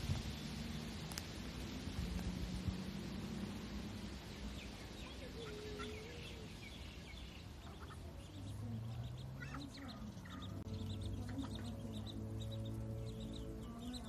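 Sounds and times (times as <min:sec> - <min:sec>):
steady outdoor hiss: 0:00.0 - 0:14.0
ducklings peeping: 0:02.1 - 0:14.0.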